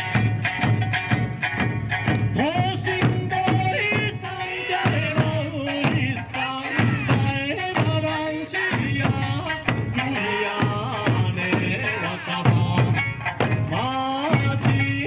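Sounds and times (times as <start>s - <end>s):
music with drum beat and bass: 0.0s - 15.0s.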